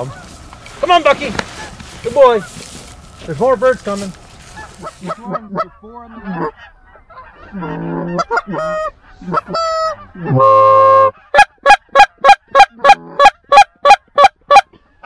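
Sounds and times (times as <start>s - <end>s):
goose honking and clucking: 0.0s - 15.0s.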